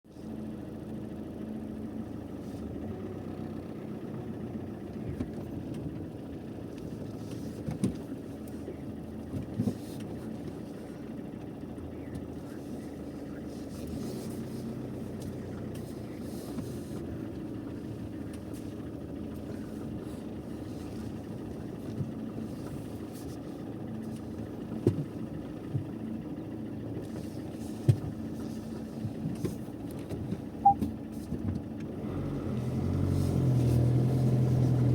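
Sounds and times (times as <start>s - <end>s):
engine drone: 0.1s - 34.9s.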